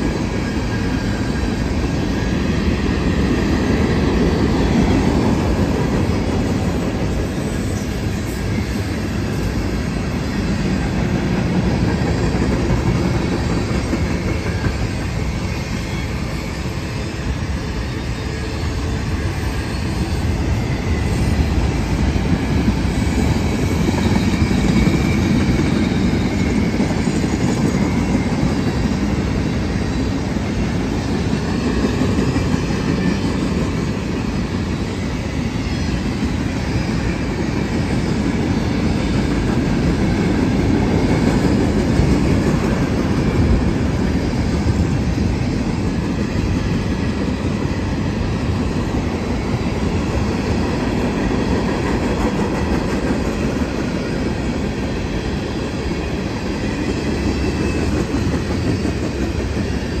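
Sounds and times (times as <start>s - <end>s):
freight train wheels rumbling: 0.0s - 60.0s.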